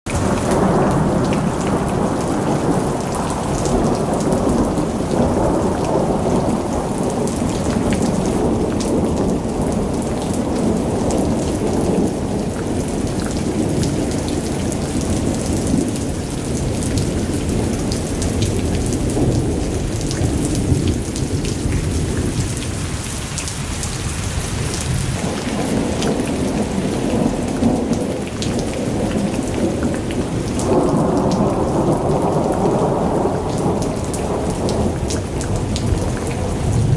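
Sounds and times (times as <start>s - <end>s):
rolling thunder rumble: 0.1s - 23.1s, 23.7s - 36.9s
rain falling: 0.1s - 36.9s.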